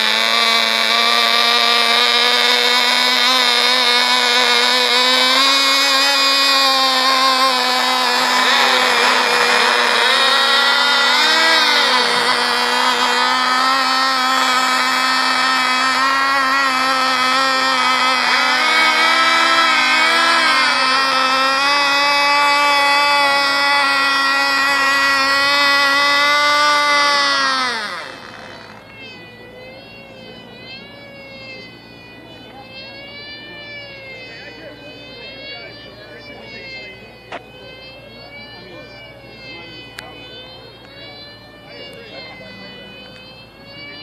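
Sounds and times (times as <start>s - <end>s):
model aircraft engine whine: 0.0s - 44.0s.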